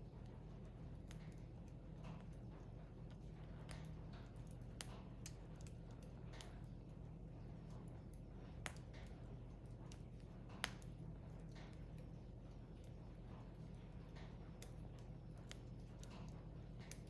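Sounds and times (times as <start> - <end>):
firewood popping and crackling: 0.0 - 17.0.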